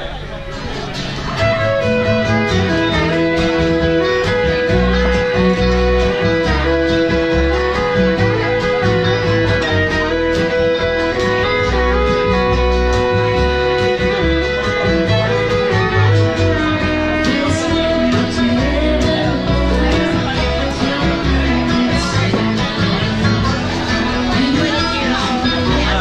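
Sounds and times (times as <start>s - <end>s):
acoustic guitar: 0.0s - 26.0s
banjo: 0.0s - 26.0s
fiddle melody: 0.0s - 26.0s
upright bass: 0.0s - 26.0s.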